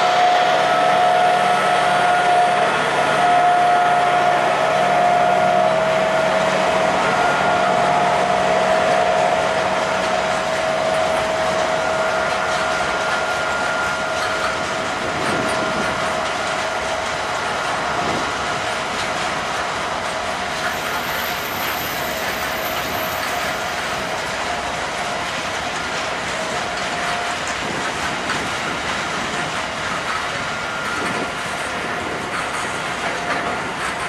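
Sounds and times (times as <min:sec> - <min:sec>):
train wheels clacking over joints: 0:00.0 - 0:34.0.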